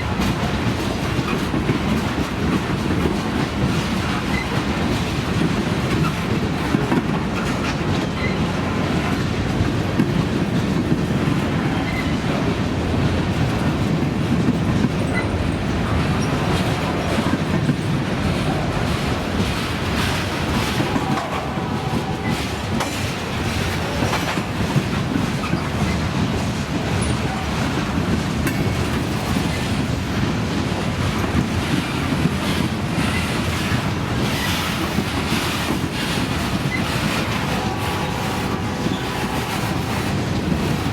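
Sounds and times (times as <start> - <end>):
freight train rumbling past: 0.0 - 40.9
wheels clacking over rail joints: 0.0 - 40.9.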